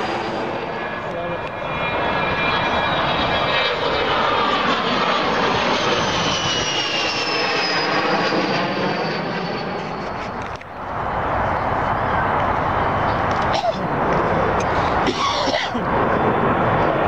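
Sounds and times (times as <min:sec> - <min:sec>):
jet aircraft passing overhead: 0:00.0 - 0:17.0.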